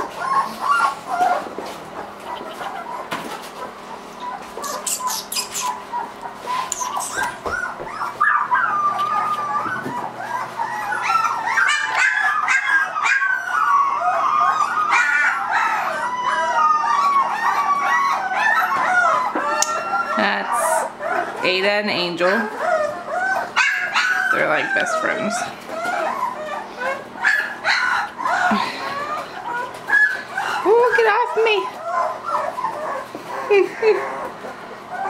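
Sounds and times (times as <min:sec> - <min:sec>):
puppies whining and squealing: 0:00.0 - 0:35.0.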